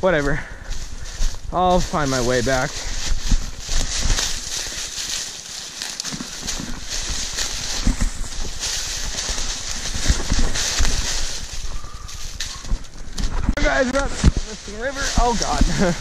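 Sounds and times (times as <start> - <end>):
footsteps crunching through dry leaves: 0.0 - 16.0.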